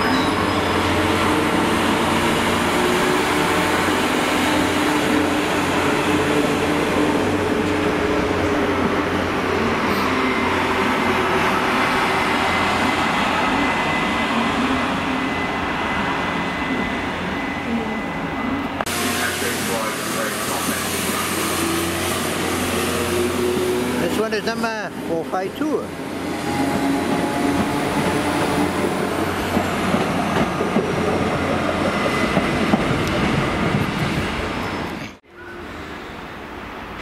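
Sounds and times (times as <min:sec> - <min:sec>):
passing train rumbling: 0:00.0 - 0:37.0.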